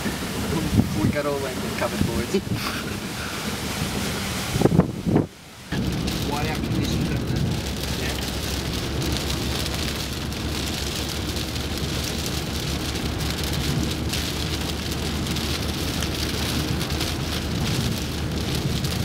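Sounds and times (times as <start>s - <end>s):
rain on a car: 0.0s - 19.0s
road rumble: 0.0s - 19.0s.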